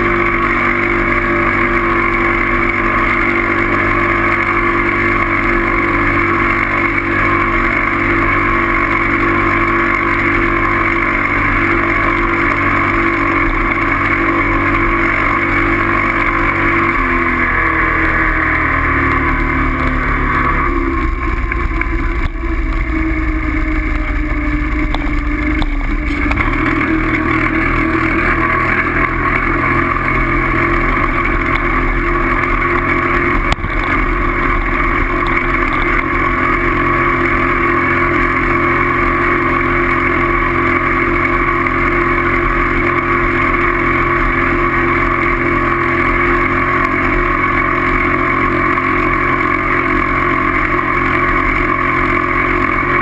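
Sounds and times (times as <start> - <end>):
loud motor drone: 0.0 - 53.0.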